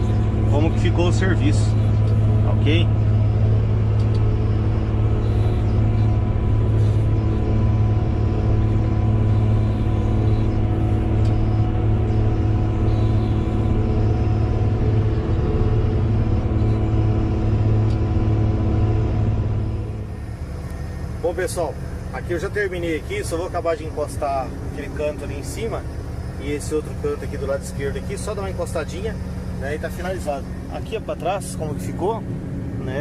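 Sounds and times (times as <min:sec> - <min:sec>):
bulldozer diesel engine humming: 0:00.0 - 0:33.0.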